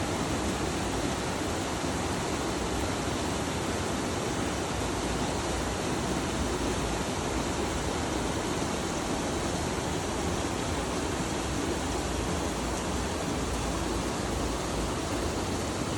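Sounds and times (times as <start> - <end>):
flowing water rushing: 0.0 - 15.9.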